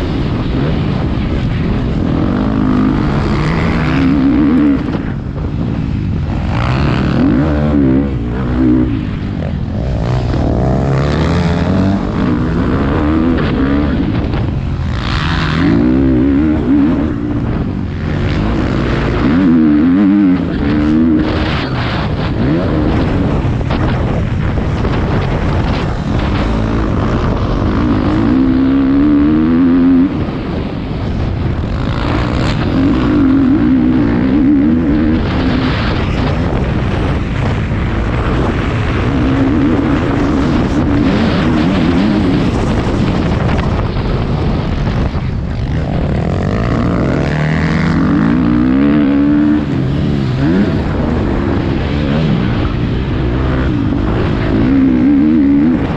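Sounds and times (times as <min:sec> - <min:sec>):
motorcycle engine revving: 0:00.0 - 0:55.9
wind rushing over helmet: 0:00.0 - 0:55.9.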